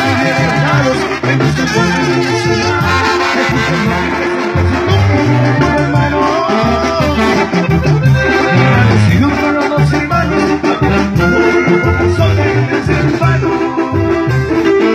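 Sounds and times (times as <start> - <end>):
rhythmic bass notes: 0.0 - 14.8
accordion: 0.0 - 14.9
brass playing: 0.0 - 14.9.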